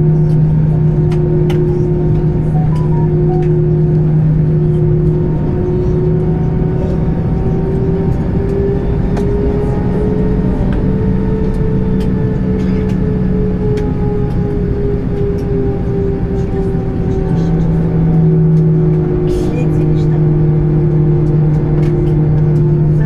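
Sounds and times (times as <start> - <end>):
jet engines humming in cabin: 0.0 - 23.0.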